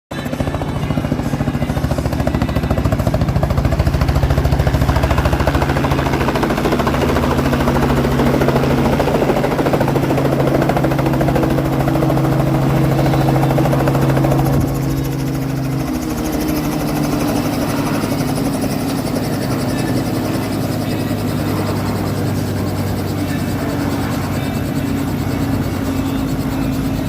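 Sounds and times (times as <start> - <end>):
engine drone: 0.1 - 27.0
helicopter rotor chopping: 0.1 - 27.0.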